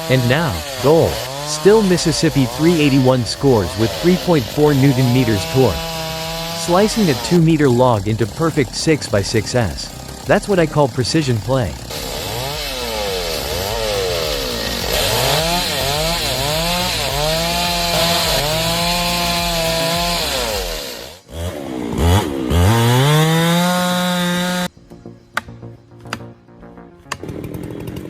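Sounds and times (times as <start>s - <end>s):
chainsaw cutting wood: 0.0s - 24.7s, 27.1s - 28.0s.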